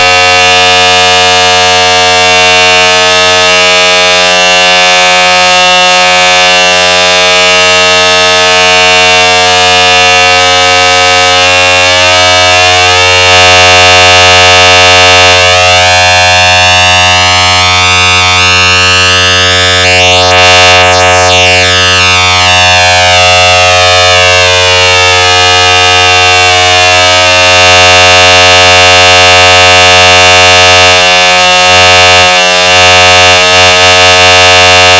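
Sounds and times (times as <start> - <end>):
distorted electronic alarm tone: 0.0 - 2.4, 8.3 - 34.9.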